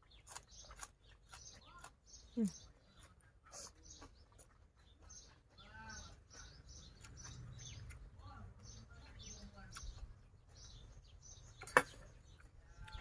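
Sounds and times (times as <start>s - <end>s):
chewing and crunching vegetables: 0.0s - 13.0s
small birds chirping: 0.0s - 13.0s.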